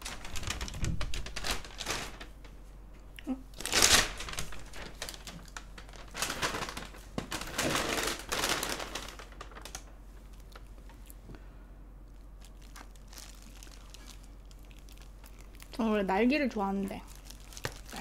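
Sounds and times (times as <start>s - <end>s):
plastic bag crinkling: 0.0s - 2.7s, 3.5s - 11.2s, 12.1s - 18.0s.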